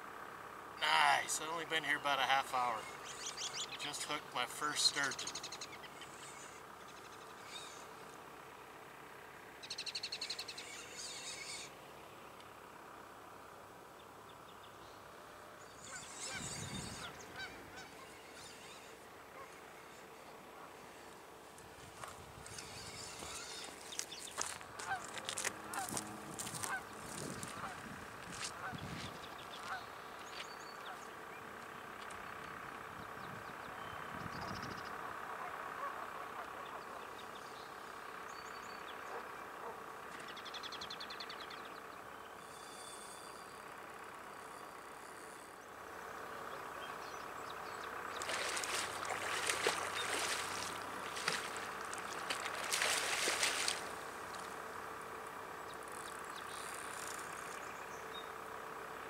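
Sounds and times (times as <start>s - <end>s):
distant mechanical hum: 0.0s - 59.0s
birds chirping: 0.8s - 59.0s.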